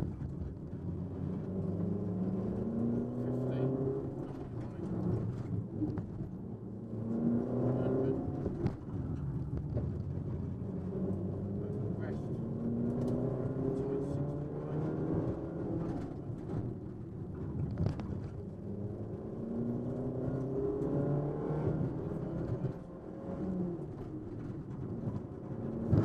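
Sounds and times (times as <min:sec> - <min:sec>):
road and tyre noise: 0:00.0 - 0:26.0
car engine revving: 0:00.7 - 0:26.0.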